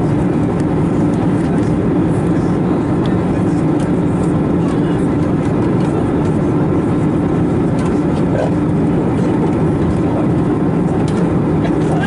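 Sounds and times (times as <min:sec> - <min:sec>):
jet engines droning: 0:00.0 - 0:12.0
steady low hum: 0:00.0 - 0:12.0.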